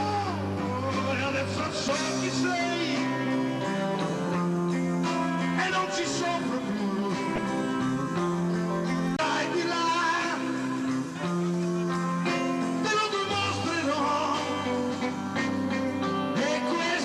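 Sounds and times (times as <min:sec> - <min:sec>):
bass guitar: 0:00.0 - 0:17.0
electric guitar bending notes: 0:00.0 - 0:17.0.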